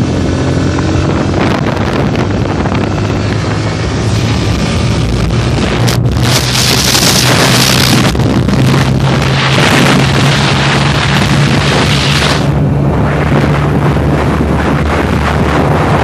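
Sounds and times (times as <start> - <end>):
motorcycle engine at high revs: 0.0 - 16.0
wind noise on microphone: 0.0 - 16.0.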